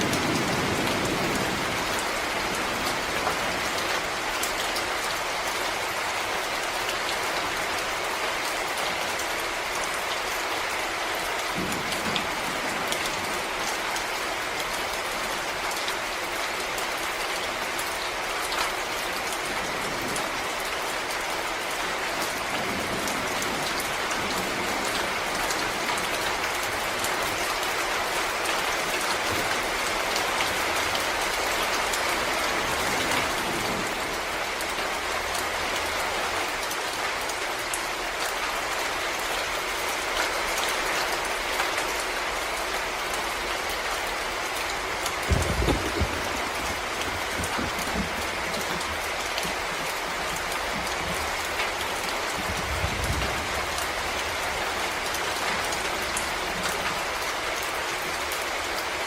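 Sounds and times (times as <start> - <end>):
raindrops hitting leaves: 0.0 - 59.0
steady rain falling: 0.0 - 59.0.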